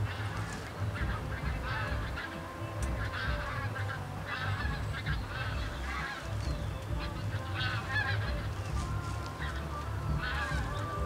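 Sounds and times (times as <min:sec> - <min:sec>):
car engines idling: 0:00.0 - 0:11.0
geese honking: 0:00.0 - 0:11.0.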